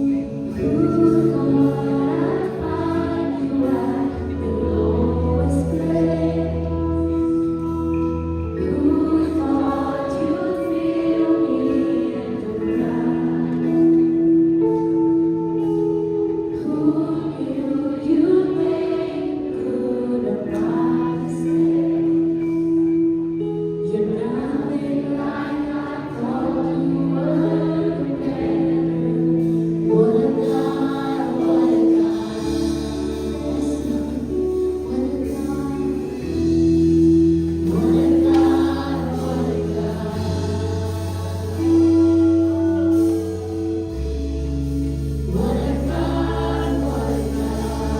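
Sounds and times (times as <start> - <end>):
group of voices singing: 0.0 - 14.7, 16.6 - 23.1, 23.9 - 47.9.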